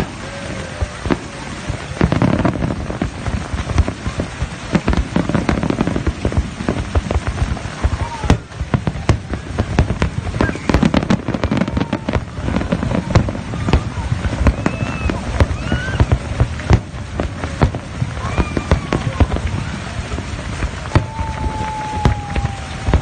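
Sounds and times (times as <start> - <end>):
fireworks bangs and crackles: 0.0 - 23.0
low rumble: 0.0 - 23.0.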